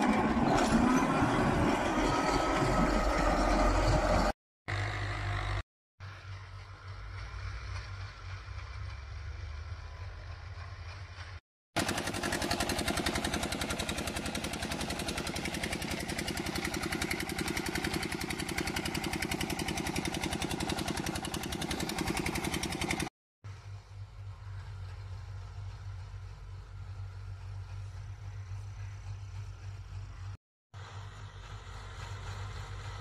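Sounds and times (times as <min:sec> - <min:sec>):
engine with fast even beat: 0:00.0 - 0:33.0
tractor engine droning: 0:00.0 - 0:33.0.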